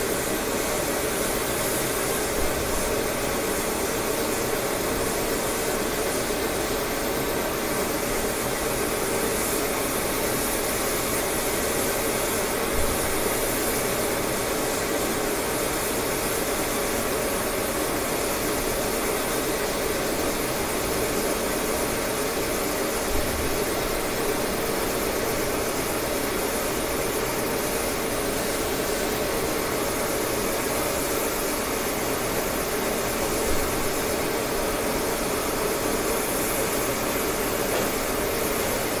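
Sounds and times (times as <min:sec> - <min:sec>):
lathe running: 0:00.0 - 0:39.0.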